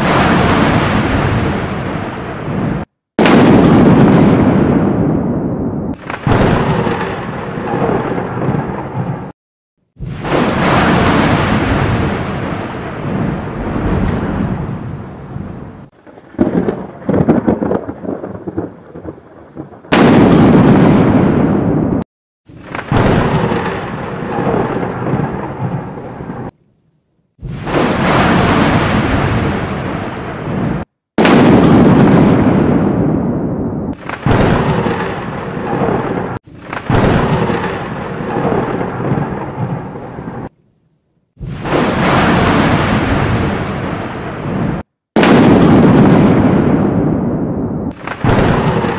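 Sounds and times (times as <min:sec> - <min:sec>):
loud thunderclap: 0:00.0 - 0:09.3, 0:09.9 - 0:26.5, 0:27.4 - 0:40.5, 0:41.4 - 0:48.9
thunder crackling cracks: 0:00.0 - 0:09.3, 0:09.9 - 0:26.6, 0:27.4 - 0:40.5, 0:41.4 - 0:48.9
thunder rumbling: 0:00.0 - 0:09.3, 0:09.9 - 0:26.6, 0:27.4 - 0:40.5, 0:41.4 - 0:48.9.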